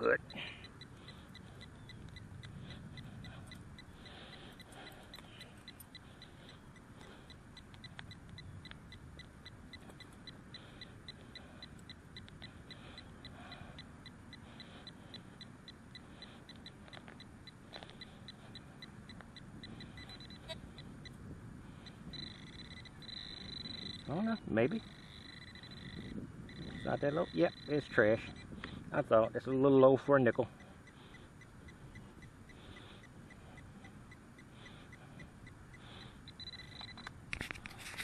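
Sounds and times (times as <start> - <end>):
metal detector two-pitch beeping: 0.0 - 21.2, 21.8 - 29.6, 30.2 - 38.0.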